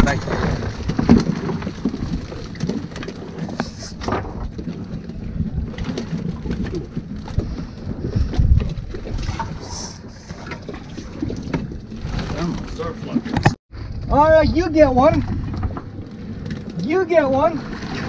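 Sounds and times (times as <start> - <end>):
low rumble of wind and water: 0.0 - 18.0.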